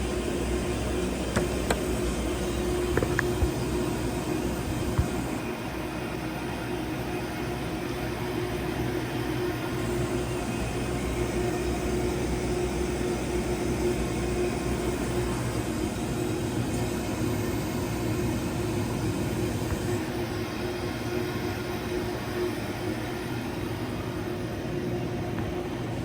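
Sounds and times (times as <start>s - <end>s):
machine hum and whir: 0.0s - 26.0s.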